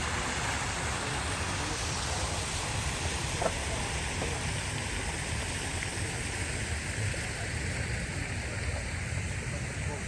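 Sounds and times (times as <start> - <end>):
breeze and sea rushing: 0.0 - 10.0.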